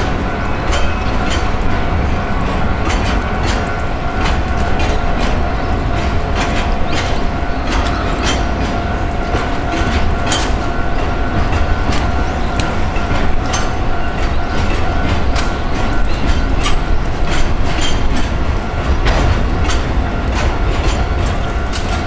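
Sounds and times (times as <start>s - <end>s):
freight train rumbling: 0.0s - 22.0s
wheels clicking over rail joints: 0.0s - 22.0s.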